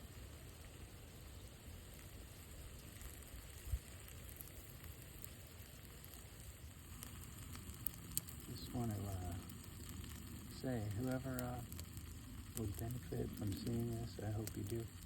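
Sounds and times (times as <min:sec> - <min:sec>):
fine hiss: 0:00.0 - 0:15.0
low outdoor rumble: 0:00.0 - 0:15.0.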